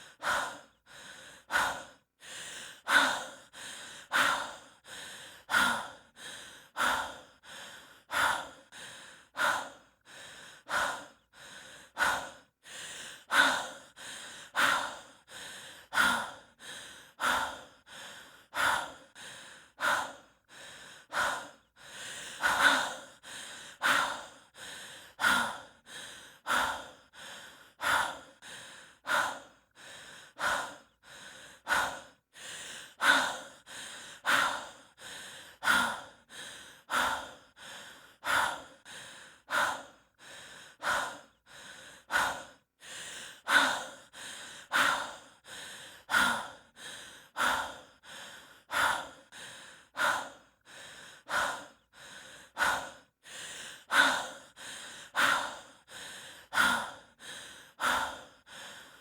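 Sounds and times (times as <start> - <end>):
person breathing heavily: 0.0 - 59.0.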